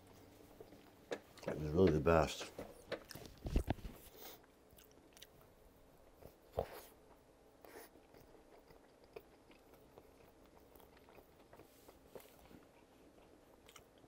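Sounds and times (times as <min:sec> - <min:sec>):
biting and chewing food: 0:00.6 - 0:05.6, 0:06.2 - 0:14.0.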